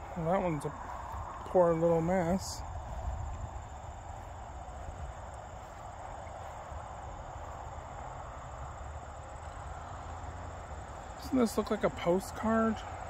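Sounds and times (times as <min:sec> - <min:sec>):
insects trilling: 0:00.0 - 0:13.0
low steady rumble: 0:00.0 - 0:13.0.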